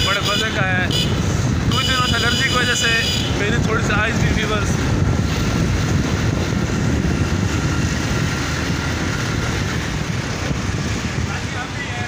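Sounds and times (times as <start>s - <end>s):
motorcycle engines: 0.0s - 12.0s
street traffic: 0.0s - 12.0s
wind rumble on microphone: 0.0s - 12.0s.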